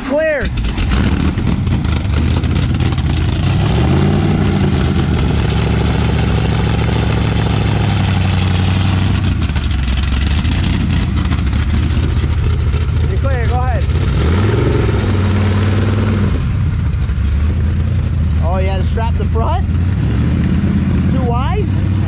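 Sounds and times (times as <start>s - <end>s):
car engine running at low speed: 0.2s - 22.0s.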